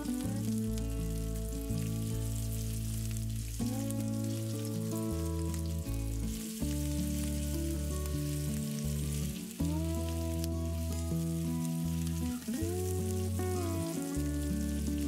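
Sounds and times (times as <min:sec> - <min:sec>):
instrumental background music: 0:00.0 - 0:15.0
meatballs sizzling in oil: 0:00.0 - 0:15.0.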